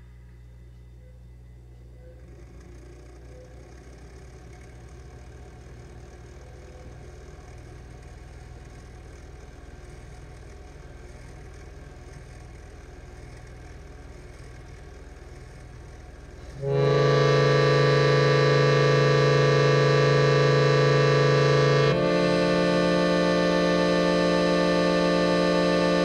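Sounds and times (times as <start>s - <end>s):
amplifier hum with light hiss: 0.0s - 26.0s.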